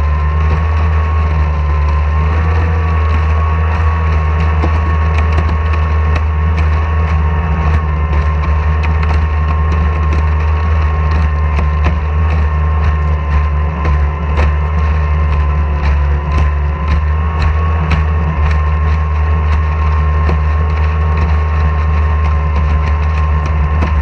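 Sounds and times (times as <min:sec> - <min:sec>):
outboard engine running: 0:00.0 - 0:24.0.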